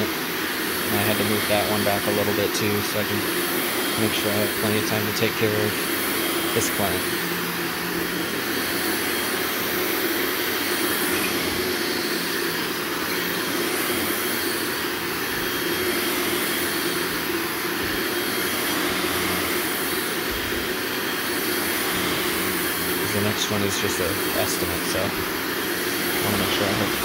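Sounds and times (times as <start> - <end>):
vacuum motor whine: 0.0 - 27.0.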